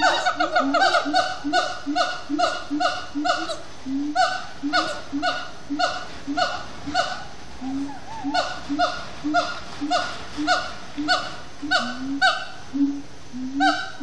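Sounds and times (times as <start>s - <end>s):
gibbons barking calls: 0.0s - 14.0s.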